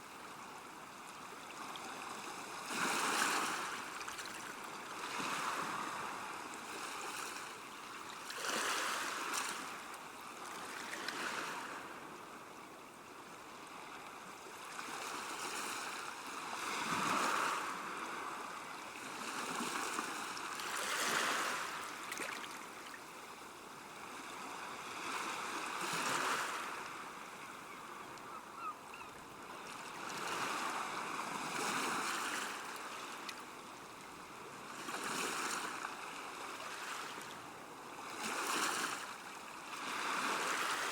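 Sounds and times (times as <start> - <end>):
small waves washing onto shore: 1.2 - 12.4, 13.6 - 40.9.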